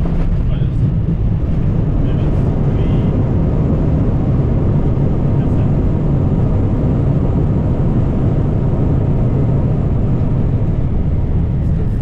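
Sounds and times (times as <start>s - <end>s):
aircraft cockpit rumble: 0.0s - 12.0s.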